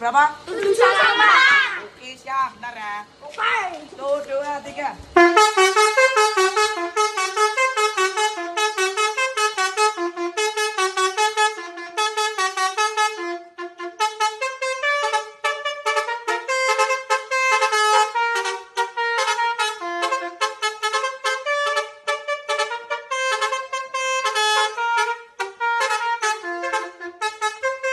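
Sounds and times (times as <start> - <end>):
multi-tone horn playing a tune: 5.1 - 27.9.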